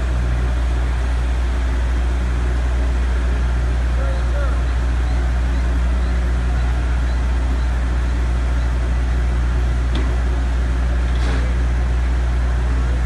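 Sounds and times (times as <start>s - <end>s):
construction machinery engine hum: 0.0s - 13.0s.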